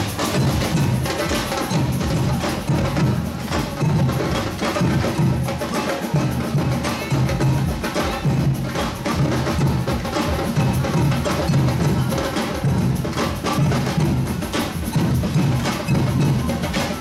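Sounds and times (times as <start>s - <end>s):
percussion band drumming: 0.0s - 17.0s.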